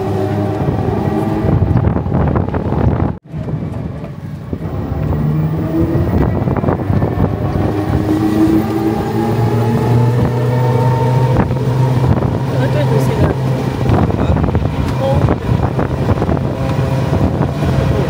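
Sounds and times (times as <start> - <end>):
auto-rickshaw engine running: 0.0 - 18.0
road noise: 0.0 - 18.0.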